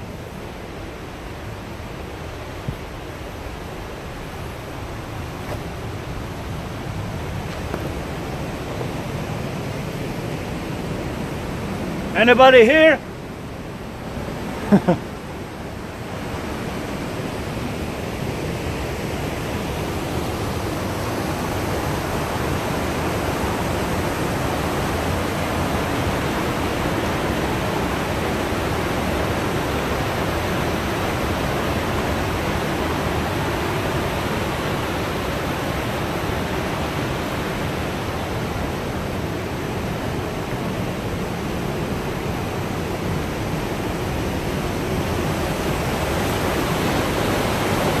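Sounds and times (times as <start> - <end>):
river rapids rushing: 0.0 - 48.0.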